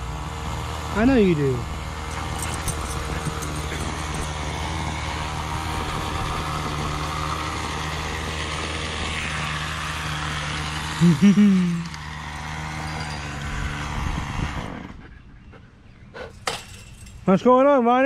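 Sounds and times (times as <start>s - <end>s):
string trimmer running: 0.0s - 15.0s.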